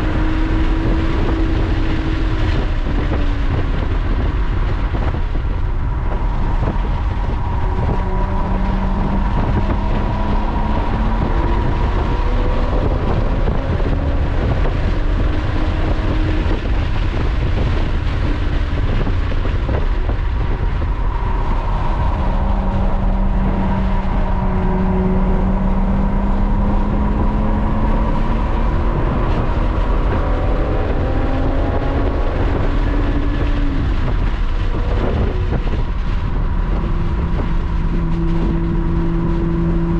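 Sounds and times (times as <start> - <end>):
car engine accelerating: 0.0 - 39.9
road noise rumble: 0.0 - 39.9.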